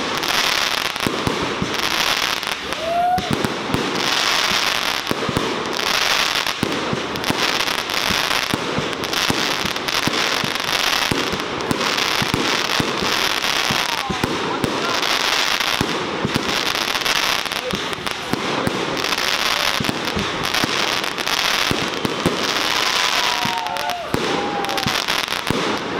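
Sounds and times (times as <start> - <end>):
firework bangs: 0.0 - 25.9
hissing crackle: 0.0 - 25.9.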